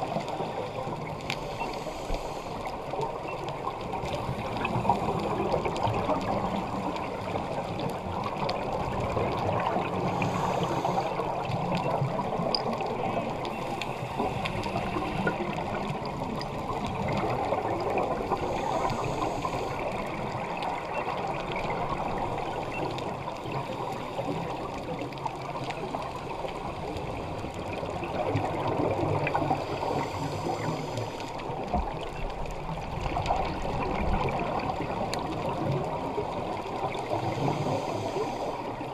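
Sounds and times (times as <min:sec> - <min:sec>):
underwater water rushing: 0:00.0 - 0:38.9.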